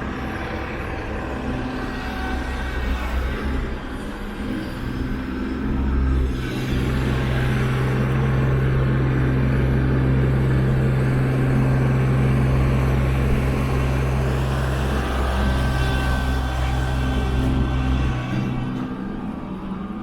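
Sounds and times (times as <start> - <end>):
large vehicle engine humming: 0.0 - 20.0.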